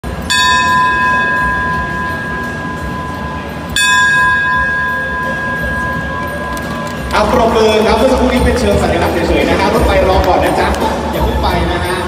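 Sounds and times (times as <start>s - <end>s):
brass bell ringing: 0.0s - 12.0s.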